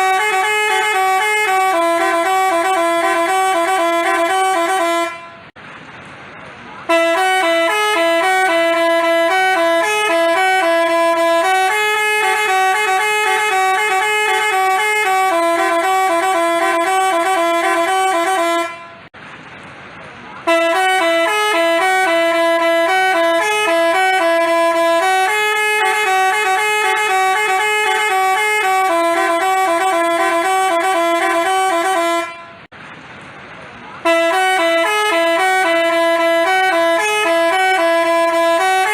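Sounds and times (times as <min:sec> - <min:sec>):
multi-tone horn playing tune: 0:00.0 - 0:05.6, 0:06.9 - 0:19.1, 0:20.4 - 0:32.7, 0:34.0 - 0:38.9.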